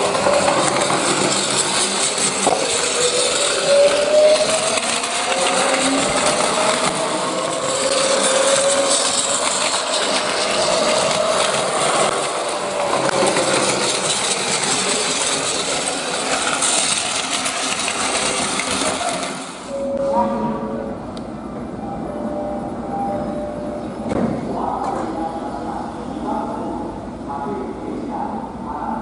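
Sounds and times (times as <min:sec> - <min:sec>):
train motor whine: 0:00.0 - 0:26.3
train rattling clatter: 0:00.0 - 0:27.4.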